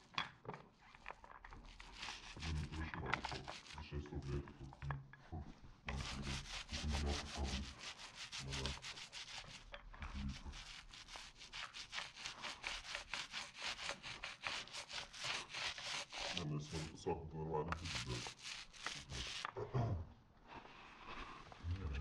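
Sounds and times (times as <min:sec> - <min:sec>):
paint roller scraping on concrete: 0:00.7 - 0:04.8, 0:05.9 - 0:19.6.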